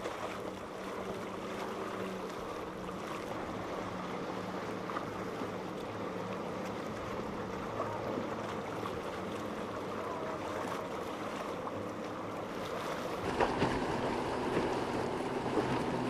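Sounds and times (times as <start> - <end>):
boat engines humming: 0.0 - 16.0
rushing water and waves: 0.0 - 16.0.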